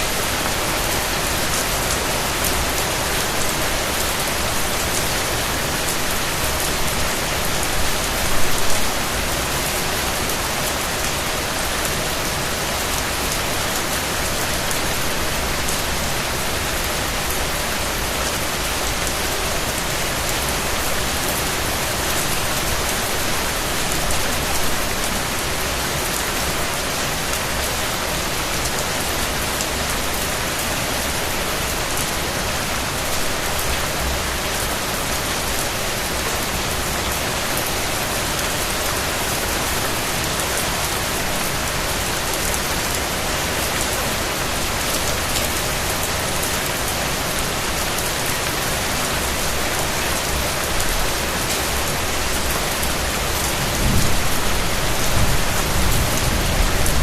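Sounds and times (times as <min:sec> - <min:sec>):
rain pattering on surfaces: 0:00.0 - 0:57.0.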